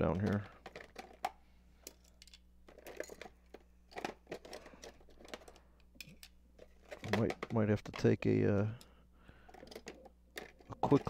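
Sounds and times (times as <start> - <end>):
low steady hum: 0.0 - 11.0
rustles of objects handled: 0.0 - 11.0.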